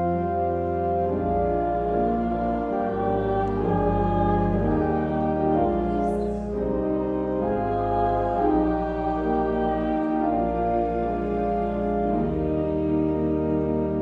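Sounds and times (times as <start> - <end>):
pipe organ playing a hymn: 0.0 - 14.0.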